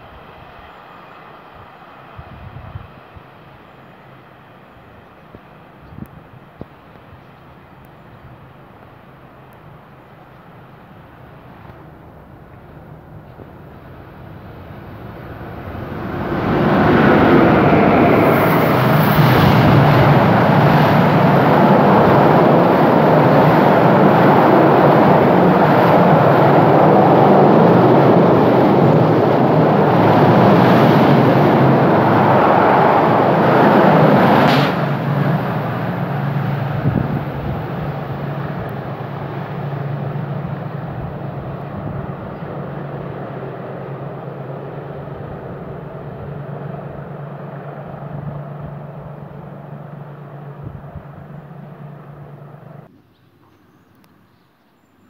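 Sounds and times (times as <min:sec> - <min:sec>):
train passing at speed: 0:00.0 - 0:53.0
faint train rumble: 0:00.0 - 0:55.0.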